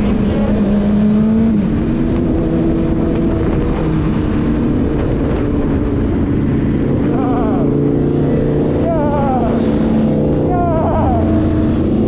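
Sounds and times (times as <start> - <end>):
car engine droning: 0.0 - 12.0
low road rumble: 0.0 - 12.0.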